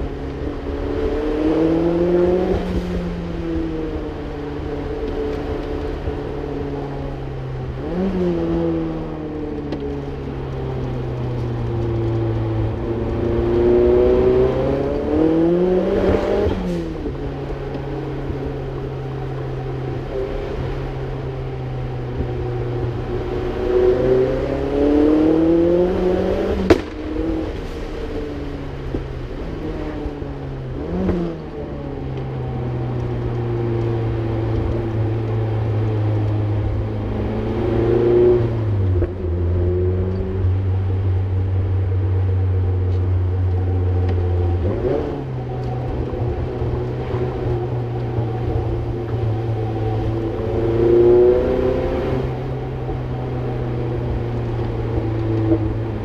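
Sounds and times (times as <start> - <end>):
road noise: 0.0 - 56.0
car engine revving through gears: 0.2 - 28.1, 29.2 - 56.0.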